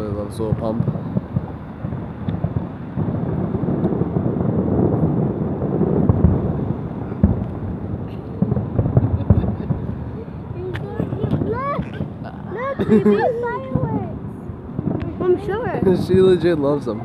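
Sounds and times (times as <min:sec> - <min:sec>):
fireworks booming and crackling: 0:00.0 - 0:17.0
sharp firework bangs: 0:00.0 - 0:17.0.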